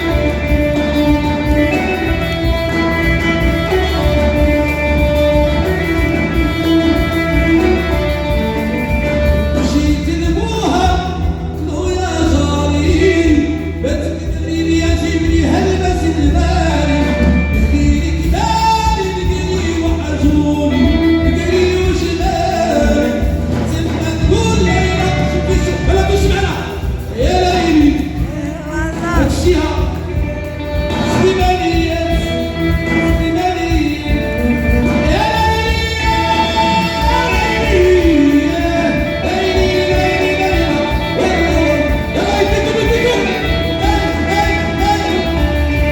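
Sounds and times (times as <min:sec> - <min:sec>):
band playing sustained notes: 0:00.0 - 0:45.9
person singing: 0:00.0 - 0:45.9.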